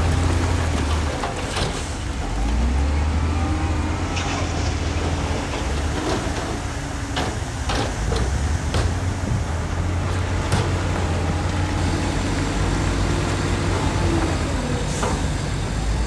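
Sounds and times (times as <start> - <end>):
diesel machinery engine hum: 0.0 - 16.0.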